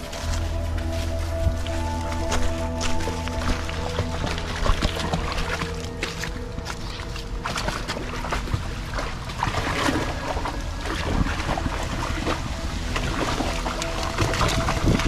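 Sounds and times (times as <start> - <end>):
dog splashing through creek: 1.5 - 15.0.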